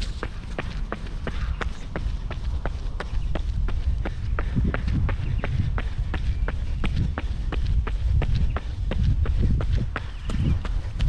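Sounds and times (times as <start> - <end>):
low rumble: 0.0 - 11.0
running footsteps on concrete: 0.0 - 11.0.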